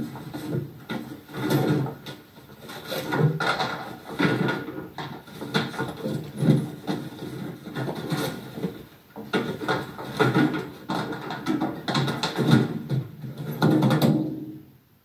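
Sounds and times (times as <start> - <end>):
objects clattering in a kitchen: 0.0 - 14.4.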